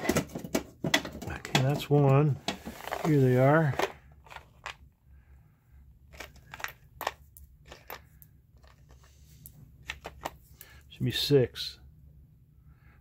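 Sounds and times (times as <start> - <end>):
faint low hum: 0.1 - 13.0.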